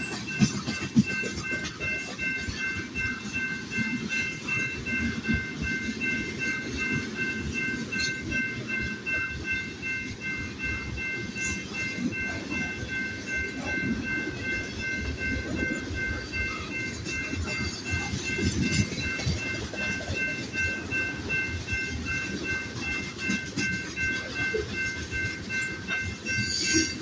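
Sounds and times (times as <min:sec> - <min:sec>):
crossing bell ringing: 0:00.0 - 0:27.0
train wheels rumbling on rails: 0:00.0 - 0:27.0.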